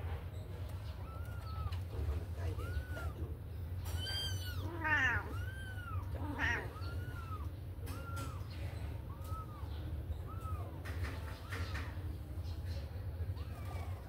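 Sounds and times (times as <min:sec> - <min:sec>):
kittens mewing: 0:00.6 - 0:12.1, 0:13.2 - 0:14.0.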